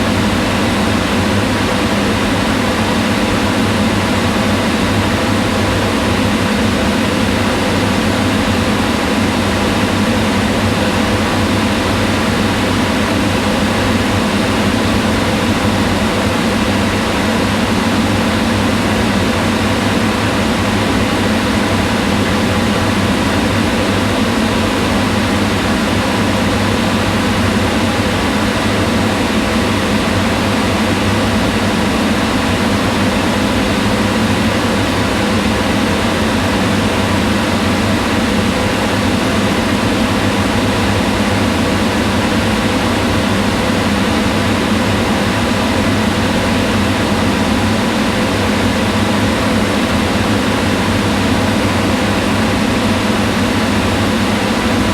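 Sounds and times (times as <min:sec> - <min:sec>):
range hood fan running: 0:00.0 - 0:54.9.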